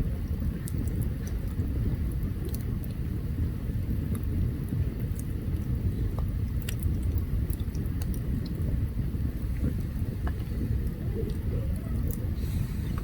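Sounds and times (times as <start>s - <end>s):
campfire low rumble: 0.0s - 13.0s
fire crackles and pops: 0.0s - 13.0s.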